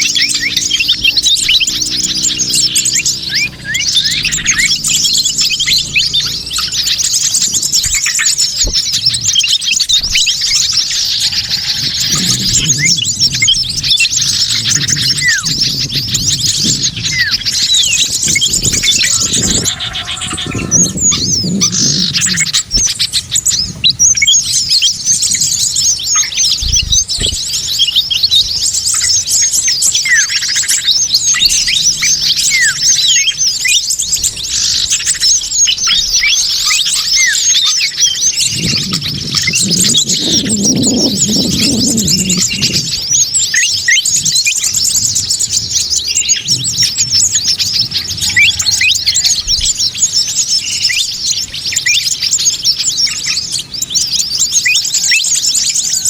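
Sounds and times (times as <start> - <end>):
flock of small birds chirping: 0.0 - 56.0.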